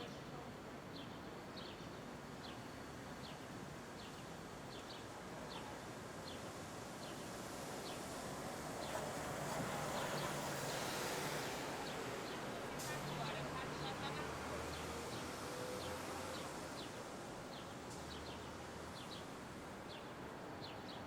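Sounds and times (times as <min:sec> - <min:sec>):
city traffic noise: 0:00.0 - 0:21.0.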